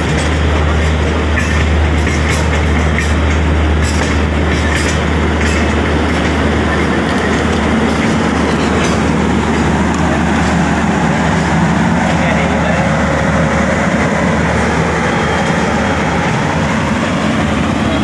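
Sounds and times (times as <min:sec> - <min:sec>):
train rolling rumble: 0:00.0 - 0:18.0
wheels clacking over rail joints: 0:00.0 - 0:18.0.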